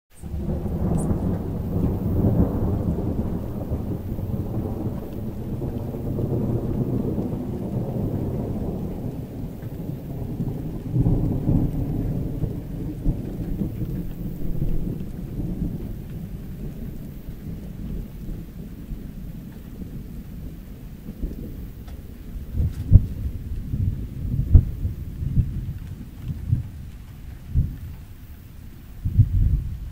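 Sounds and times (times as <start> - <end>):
rolling thunder: 0.1 - 29.9
steady rain: 0.1 - 29.9.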